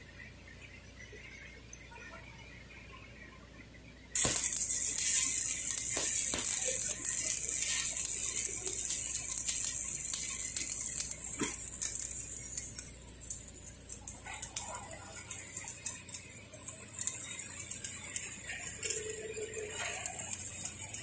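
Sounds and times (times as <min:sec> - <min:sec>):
welding arc crackling hiss: 0:04.2 - 0:21.0.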